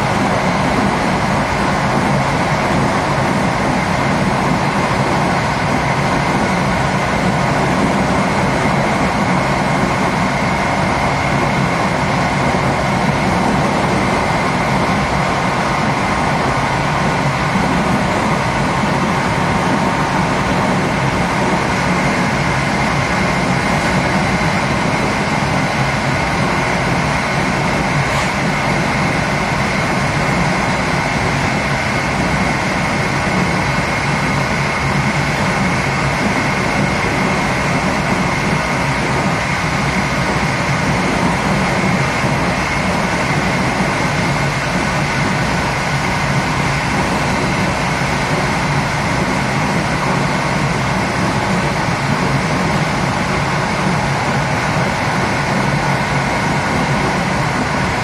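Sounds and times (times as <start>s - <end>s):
train wheels rolling on rails: 0.0s - 58.0s.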